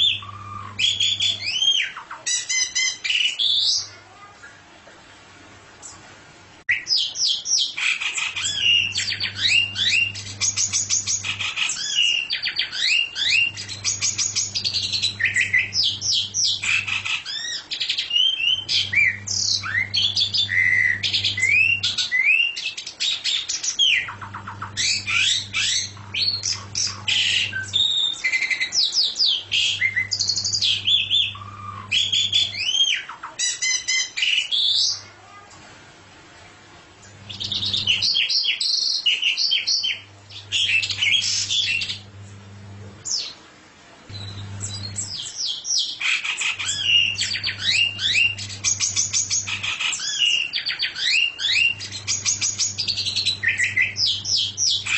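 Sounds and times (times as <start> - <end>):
songbird singing: 0.0 - 3.9, 6.7 - 35.0, 37.1 - 42.2, 44.1 - 54.9.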